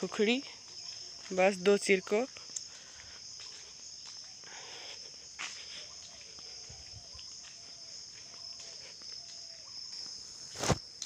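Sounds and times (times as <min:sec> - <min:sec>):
footsteps on dirt path: 0:00.0 - 0:11.0
insects chorus: 0:00.0 - 0:11.0.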